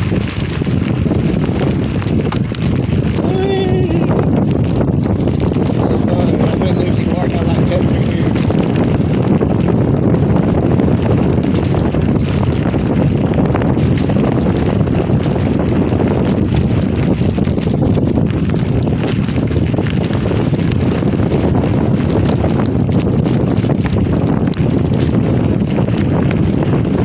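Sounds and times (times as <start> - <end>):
tyres rolling over gravel: 0.0 - 27.0
wind noise on microphone: 0.0 - 27.0.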